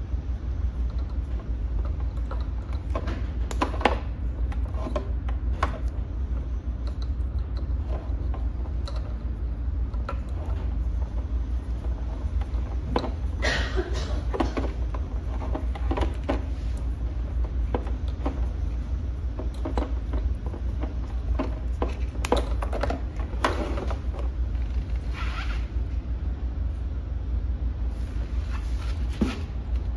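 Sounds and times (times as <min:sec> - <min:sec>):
steady low hum: 0:00.0 - 0:29.9
wires clicking and rustling: 0:00.6 - 0:25.7.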